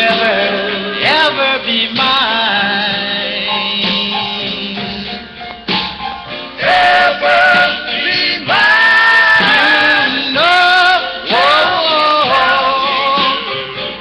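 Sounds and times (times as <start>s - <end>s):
doo-wop group singing in harmony: 0.0s - 5.2s, 6.5s - 14.0s.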